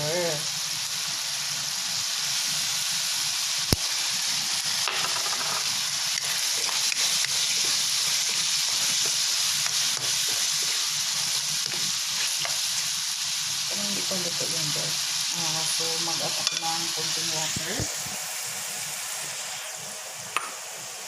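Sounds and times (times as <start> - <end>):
vegetables sizzling in a frying pan: 0.0 - 21.0.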